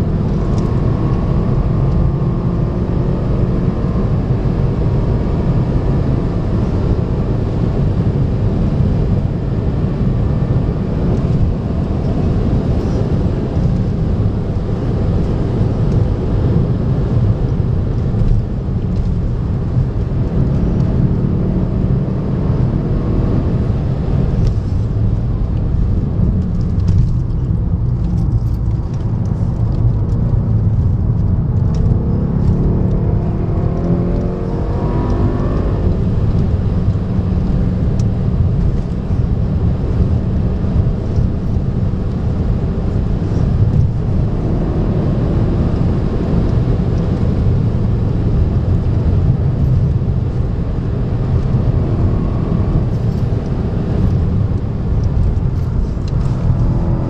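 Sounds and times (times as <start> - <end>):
car engine running hard: 0.0 - 57.0
road and tyre noise: 0.0 - 57.0.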